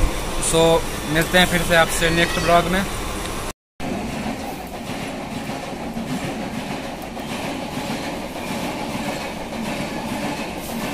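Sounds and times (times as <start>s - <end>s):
train rushing past: 0.0s - 10.9s.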